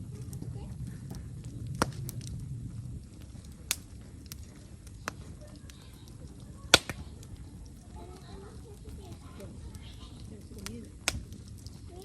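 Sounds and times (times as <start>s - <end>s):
low rumble: 0.0s - 12.0s
wood fire crackling and popping: 0.0s - 12.0s.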